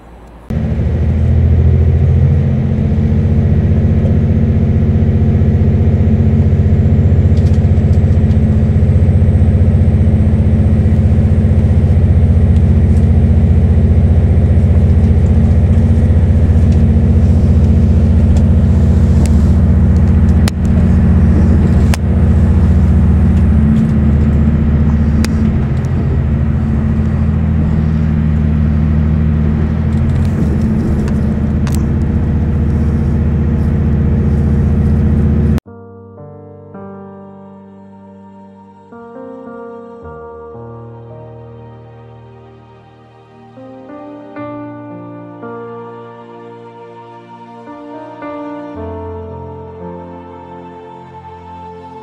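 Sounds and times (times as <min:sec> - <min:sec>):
diesel train engine drone: 0:00.0 - 0:35.6, 0:38.2 - 0:52.0.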